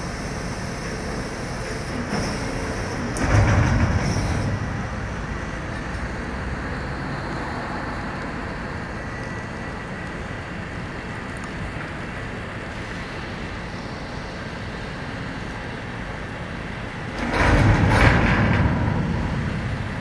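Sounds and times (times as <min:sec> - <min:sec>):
road traffic hiss: 0:00.0 - 0:03.2, 0:03.9 - 0:17.2.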